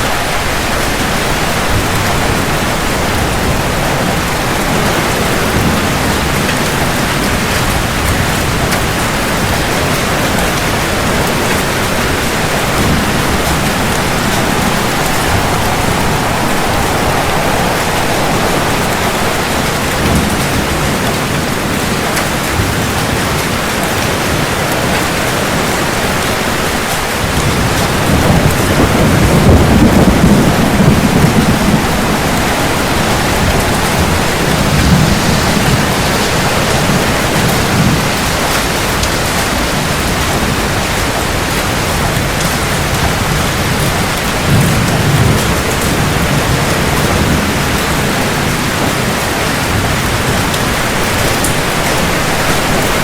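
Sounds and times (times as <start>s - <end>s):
heavy rain hissing: 0.0s - 42.9s, 43.6s - 53.0s
thunder rumbling: 0.0s - 53.0s.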